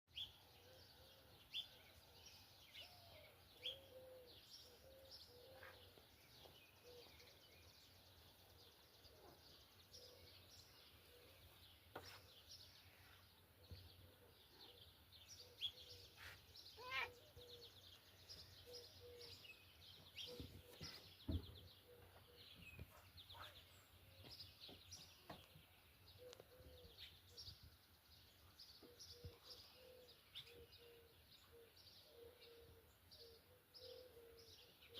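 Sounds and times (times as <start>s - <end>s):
birds chirping and trilling: 0.1s - 34.9s.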